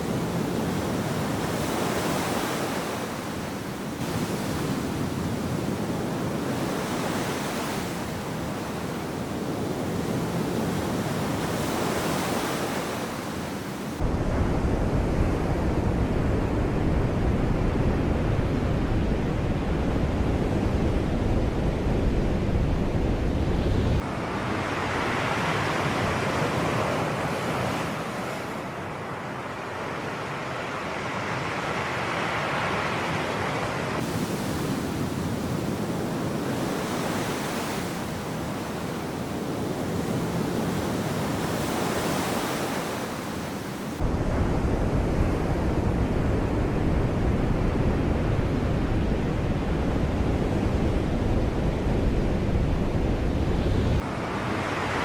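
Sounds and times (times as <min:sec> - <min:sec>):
sea waves washing ashore: 0:00.0 - 0:55.0
wind rumble on microphone: 0:00.0 - 0:55.0.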